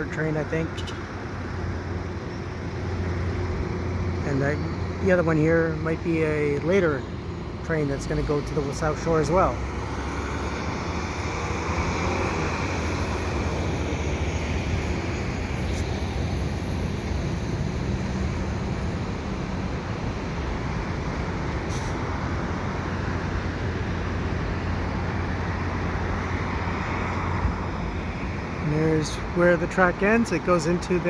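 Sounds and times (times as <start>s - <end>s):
city traffic: 0.0s - 31.0s.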